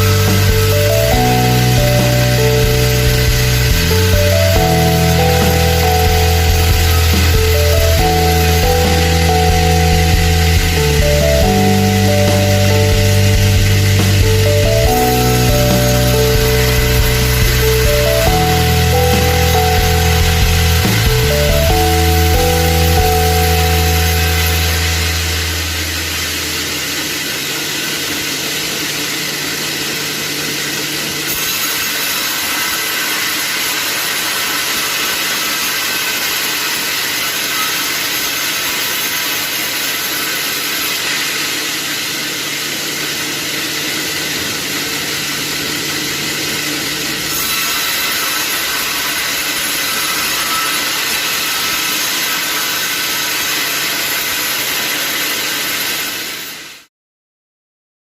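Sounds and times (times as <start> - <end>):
saw cutting through wood: 0.0 - 56.9.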